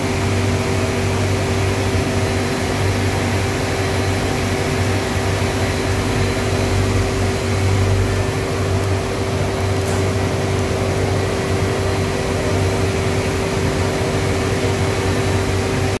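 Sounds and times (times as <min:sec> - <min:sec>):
furnace blower fans rushing: 0:00.0 - 0:16.0.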